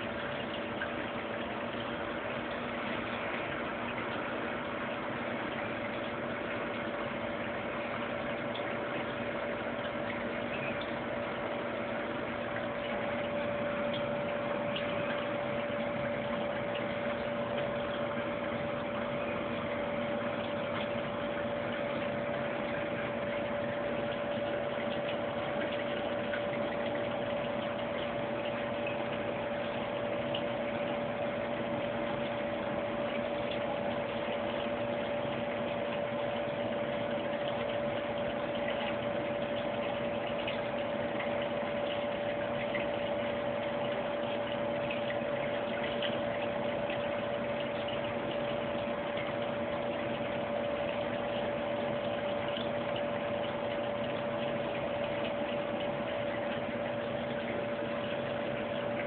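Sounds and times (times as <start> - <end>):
steady mid-pitched hum: 0.0 - 59.0.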